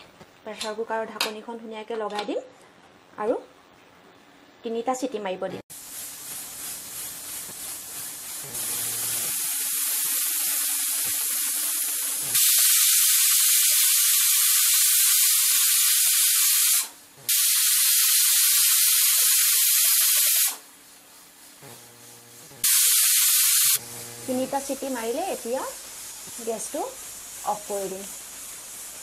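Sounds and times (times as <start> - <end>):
pressure cooker steam hissing: 5.7 - 29.0.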